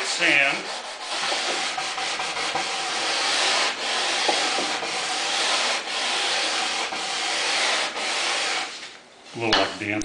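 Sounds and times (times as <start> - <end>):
sandpaper rubbing on wood: 0.0 - 9.0.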